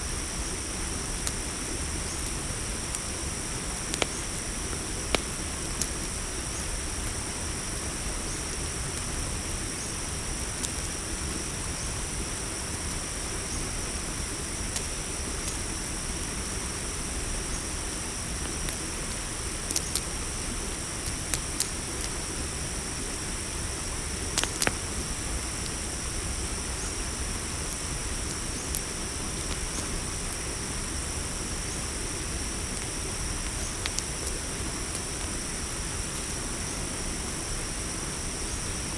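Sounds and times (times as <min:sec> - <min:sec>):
campfire crackling and popping: 0:00.0 - 0:38.5
crickets chirping: 0:00.0 - 0:38.9.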